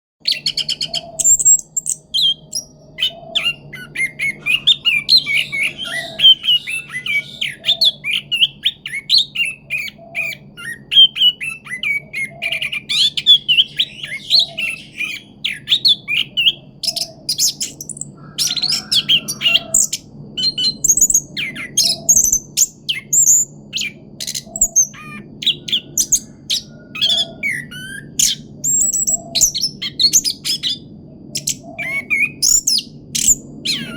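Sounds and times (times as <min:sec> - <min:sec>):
thrush singing chirps and trills: 0:00.2 - 0:33.9.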